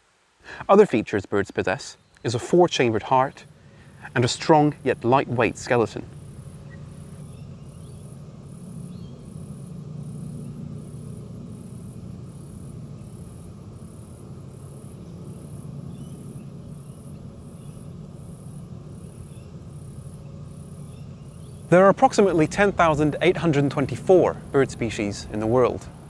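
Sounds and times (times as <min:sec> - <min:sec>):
low steady background rumble: 0:00.0 - 0:26.0
insect chirping: 0:01.3 - 0:26.0.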